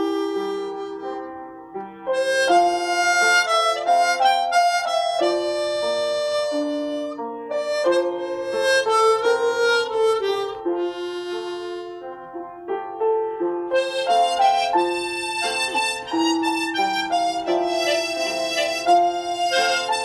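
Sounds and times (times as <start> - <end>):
harmonica playing slow melody: 0.0 - 12.4, 13.7 - 20.0.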